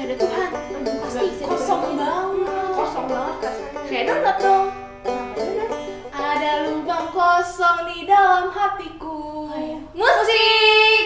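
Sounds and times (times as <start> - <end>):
girls singing unaccompanied: 0.2 - 5.0, 6.1 - 11.0.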